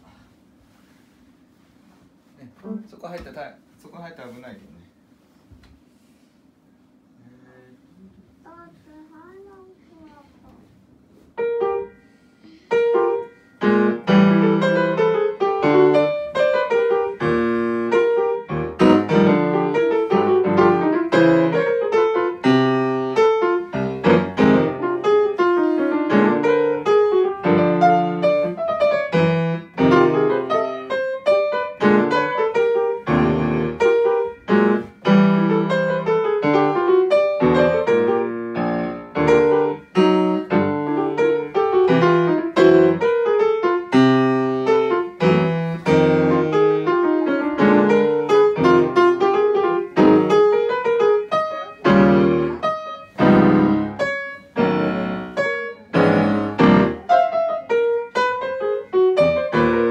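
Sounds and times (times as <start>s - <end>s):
jazz piano playing: 11.0s - 59.9s.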